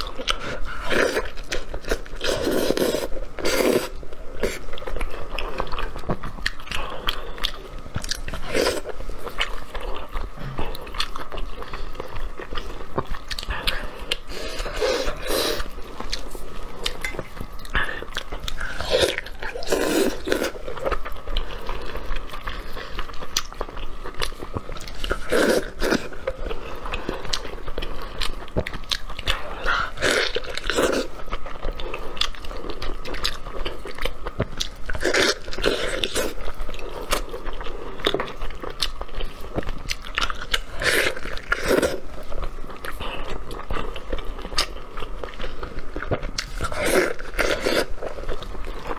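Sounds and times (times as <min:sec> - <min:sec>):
wet chewing and biting: 0:00.0 - 0:48.9.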